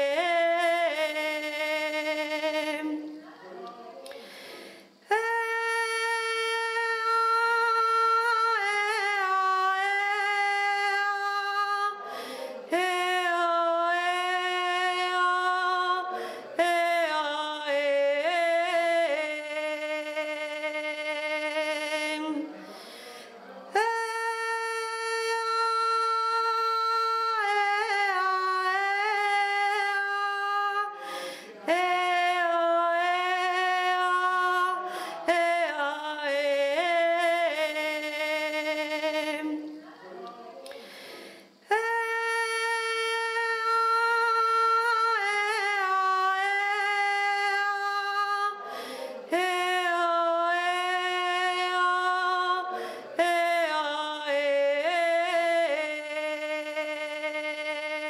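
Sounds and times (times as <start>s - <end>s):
person singing unaccompanied: 0.0s - 3.8s, 5.0s - 22.6s, 23.6s - 40.4s, 41.6s - 58.0s.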